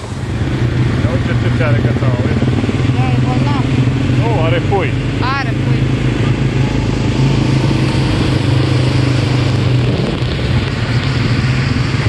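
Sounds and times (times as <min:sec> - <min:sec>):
atv engine running: 0:00.0 - 0:12.0
road and wind noise: 0:00.0 - 0:12.0.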